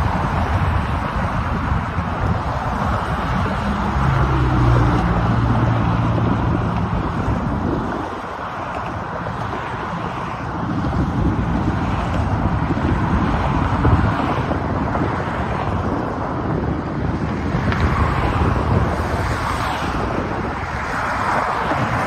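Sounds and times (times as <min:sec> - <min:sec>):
road traffic rushing: 0:00.0 - 0:22.0
wind buffeting microphone: 0:00.0 - 0:22.0.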